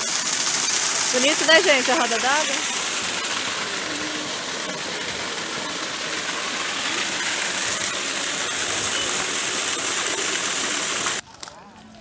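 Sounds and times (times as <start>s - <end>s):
water rushing at water wheel: 0.0s - 11.2s.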